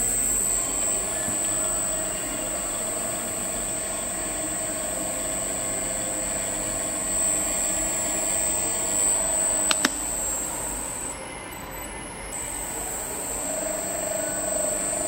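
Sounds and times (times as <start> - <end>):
electric motor humming: 0.0 - 15.0
high motor whine: 0.0 - 15.0.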